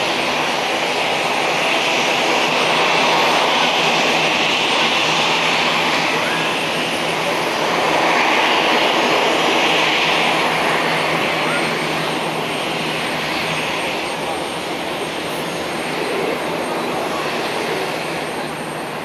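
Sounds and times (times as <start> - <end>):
turboprop engines running: 0.0 - 19.0.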